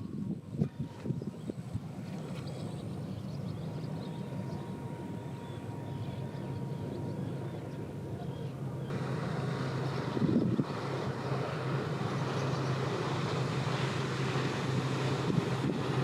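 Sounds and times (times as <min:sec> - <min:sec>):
boat engine droning: 0:00.0 - 0:16.0
faint steady whine: 0:00.0 - 0:16.0.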